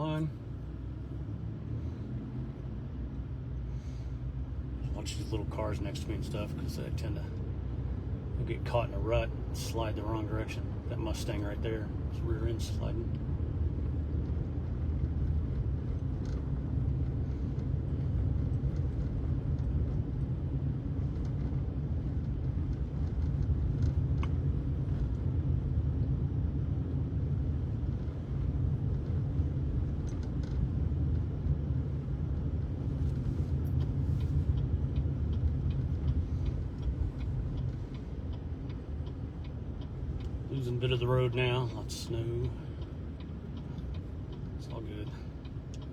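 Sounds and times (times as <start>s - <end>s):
car engine and tyres on snow: 0.0s - 45.9s
turn signal ticking: 4.3s - 45.9s.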